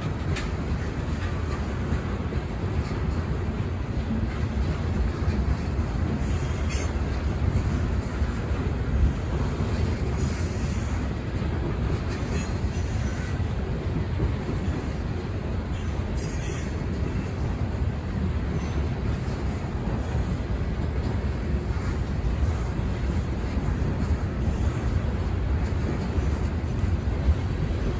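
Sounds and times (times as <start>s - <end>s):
freight train rumbling on track: 0.0s - 27.9s.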